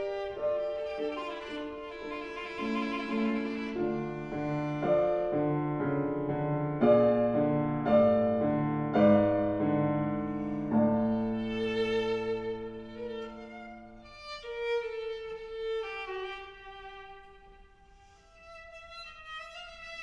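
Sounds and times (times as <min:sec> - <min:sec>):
piano chords: 0:00.0 - 0:17.3.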